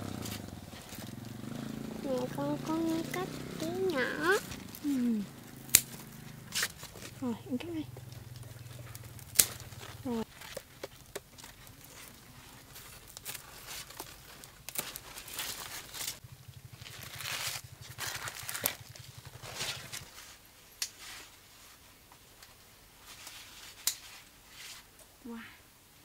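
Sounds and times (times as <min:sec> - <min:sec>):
vines and leaves rustling: 0:00.0 - 0:25.6.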